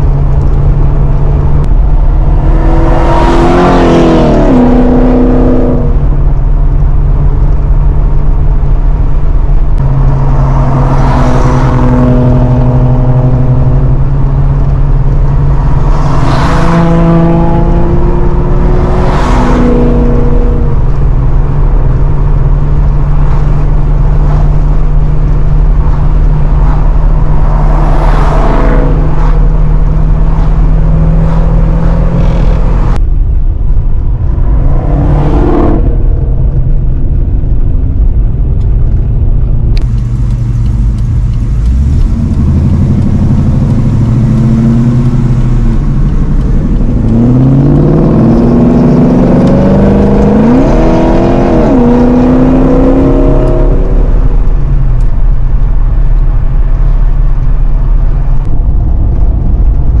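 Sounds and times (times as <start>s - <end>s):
car engine revving: 0.0s - 60.0s.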